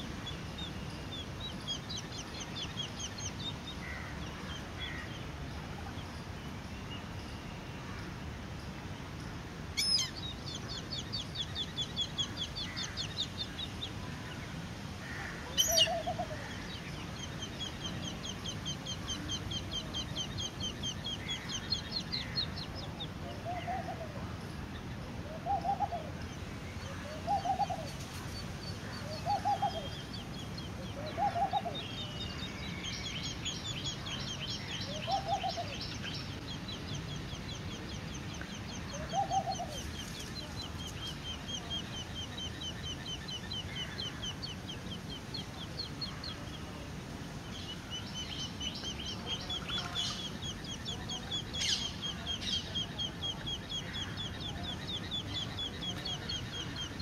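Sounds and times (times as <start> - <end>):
birds chittering: 0.0 - 8.1, 9.7 - 57.0.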